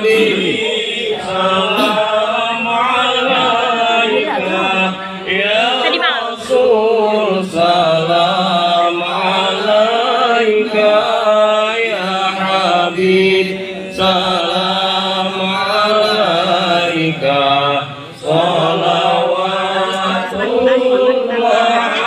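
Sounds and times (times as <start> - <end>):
melodic religious chanting: 0.0 - 22.0.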